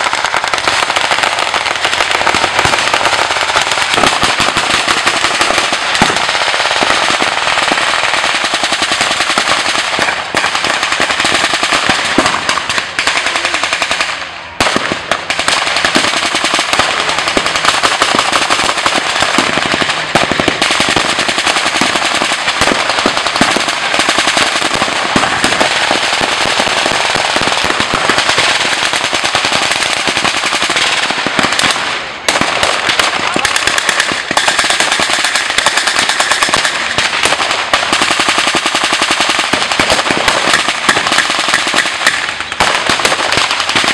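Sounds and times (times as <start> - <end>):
blank gunfire automatic bursts: 0.0 - 43.9.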